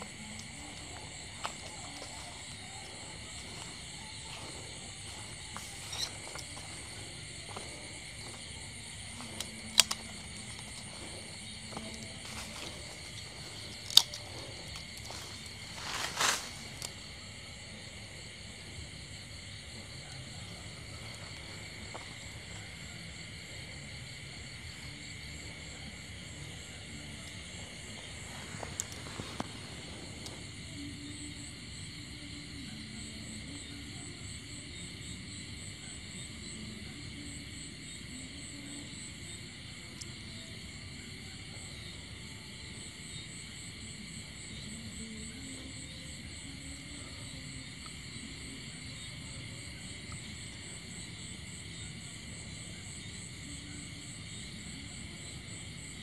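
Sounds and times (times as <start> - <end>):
night insects trilling: 0.0 - 56.0.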